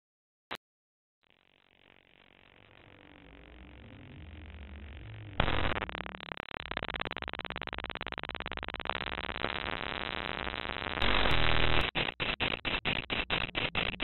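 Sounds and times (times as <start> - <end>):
harsh glitch noise: 2.4 - 14.0.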